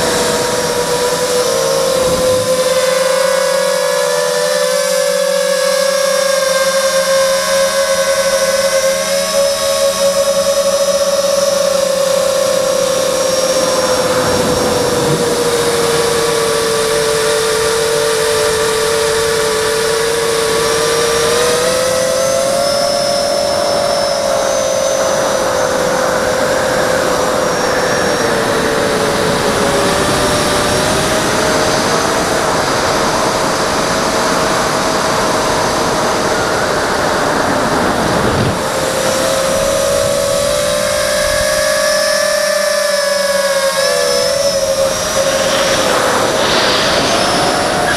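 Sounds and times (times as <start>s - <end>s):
drone motors whining: 0.0s - 32.7s, 36.6s - 47.9s
constant rushing noise: 0.0s - 47.9s.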